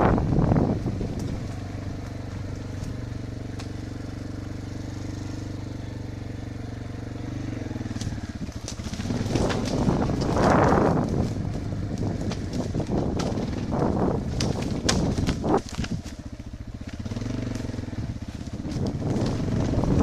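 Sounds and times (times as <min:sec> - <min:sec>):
loud motorcycle riding noise: 0:00.0 - 0:20.0
motorcycle engine idling: 0:00.0 - 0:20.0.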